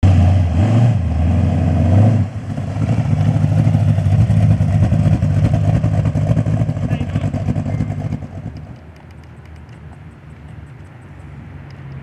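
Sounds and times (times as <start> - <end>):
vehicle engine running and idling: 1.6 - 12.0.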